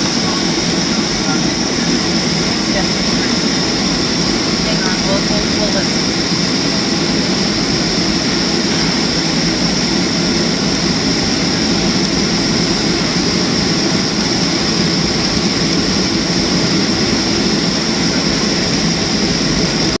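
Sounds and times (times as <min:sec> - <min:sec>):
jet engine cabin noise: 0:00.0 - 0:20.0.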